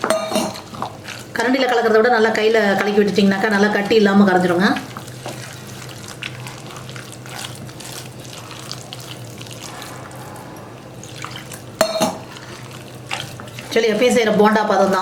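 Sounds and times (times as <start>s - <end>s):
hands mixing wet batter: 0.0s - 15.0s
low steady hum: 0.0s - 15.0s.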